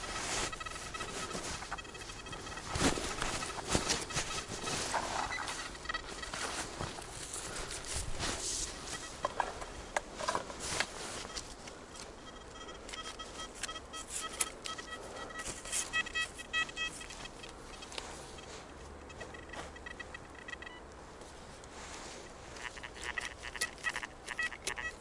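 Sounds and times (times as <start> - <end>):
metal detector beeping: 0.0 - 9.8, 11.0 - 21.0, 22.0 - 25.0
handling clicks and rustles: 0.0 - 25.0.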